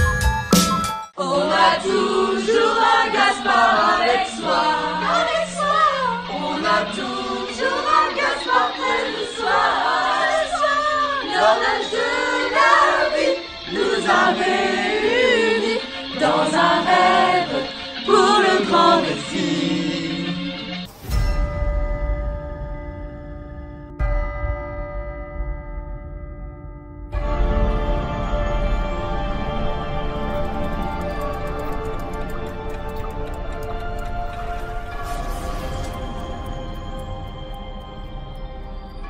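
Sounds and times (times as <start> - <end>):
teenagers singing in chorus: 1.2 - 20.9, 27.2 - 38.8.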